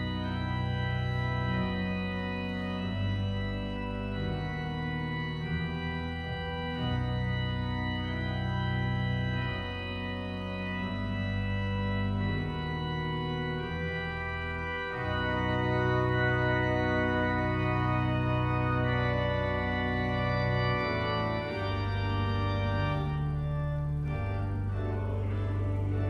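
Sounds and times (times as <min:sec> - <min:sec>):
church organ chords: 0:00.0 - 0:26.0.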